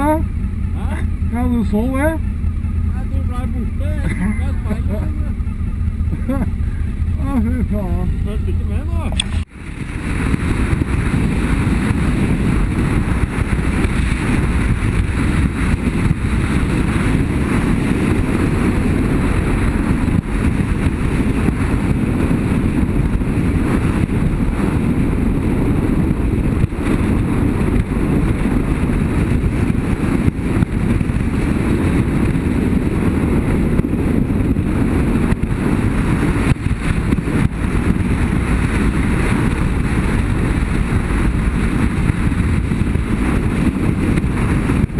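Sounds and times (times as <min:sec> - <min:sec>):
motorcycle engine and tyres: 0:00.0 - 0:44.9
wind buffeting microphone: 0:00.0 - 0:44.9.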